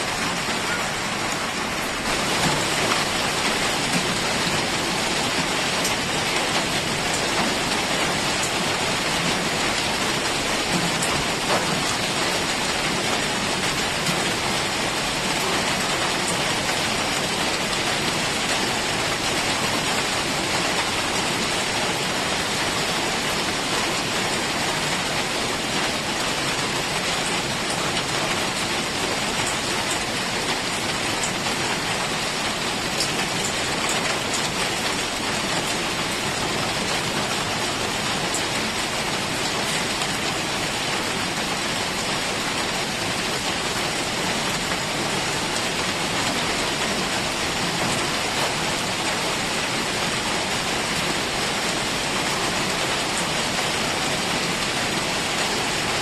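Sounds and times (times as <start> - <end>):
heavy rain in forest: 0.0 - 56.0.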